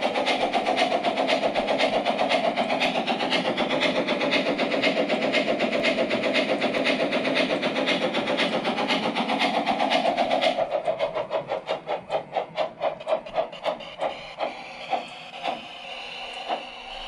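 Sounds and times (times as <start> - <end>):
model steam locomotive chuffing: 0.0 - 17.0
model train drive running: 0.0 - 17.0.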